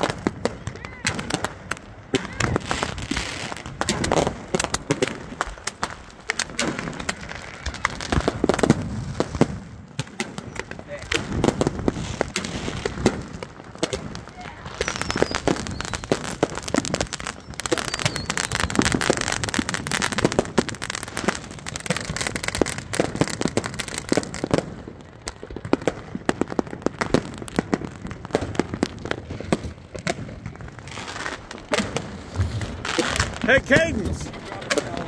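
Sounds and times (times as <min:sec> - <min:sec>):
fireworks popping and banging: 0:00.0 - 0:35.0.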